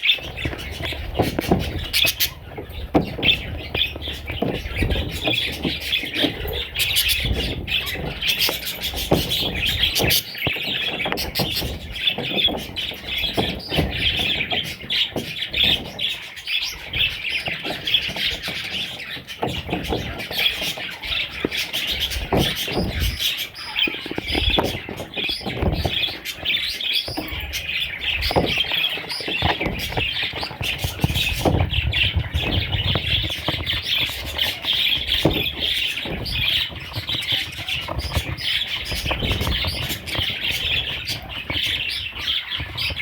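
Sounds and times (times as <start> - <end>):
budgerigars chirping and warbling: 0.0 - 43.0.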